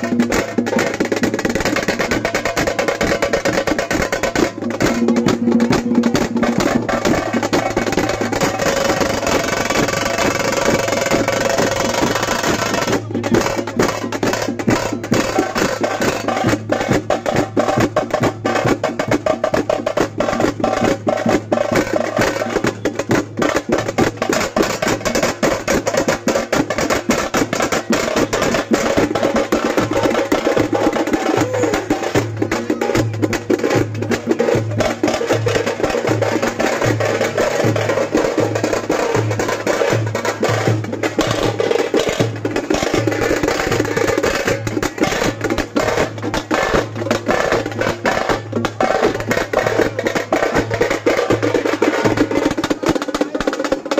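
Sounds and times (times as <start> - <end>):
deep regular drum beat: 0.0 - 53.9
fast dense drumming: 0.0 - 53.9.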